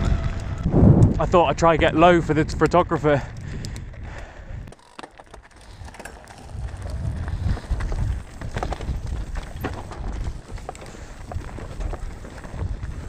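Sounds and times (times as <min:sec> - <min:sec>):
wind on microphone: 0:00.0 - 0:04.8, 0:05.7 - 0:13.0
bike rattling and knocking: 0:00.0 - 0:13.0
bike tyres rumbling on dirt: 0:00.0 - 0:13.0.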